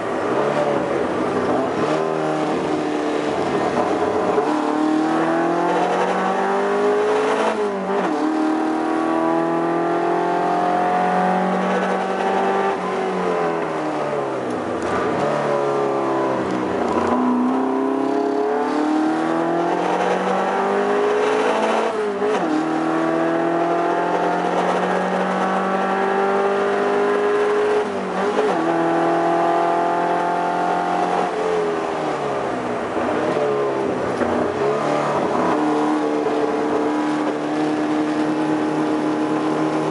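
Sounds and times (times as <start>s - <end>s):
race car engine accelerating: 0.1s - 39.9s.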